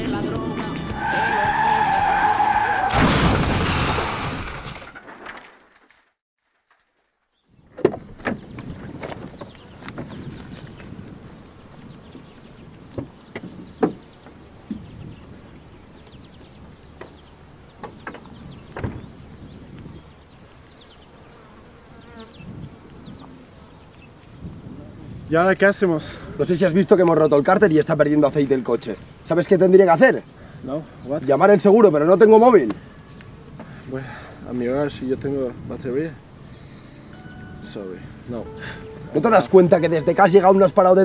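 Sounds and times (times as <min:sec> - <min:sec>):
cricket chirping: 0:07.3 - 0:25.8, 0:26.5 - 0:41.0.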